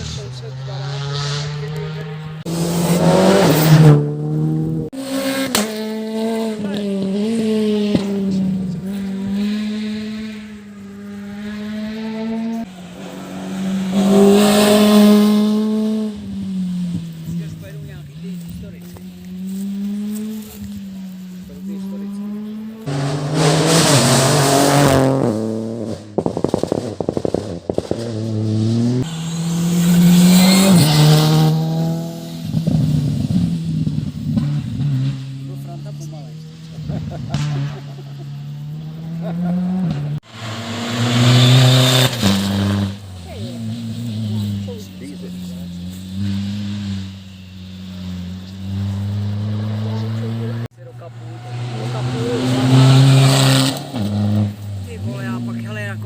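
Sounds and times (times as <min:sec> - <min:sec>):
rally car engine at high revs: 0:00.0 - 0:56.0
exhaust popping and crackling: 0:01.6 - 0:56.0.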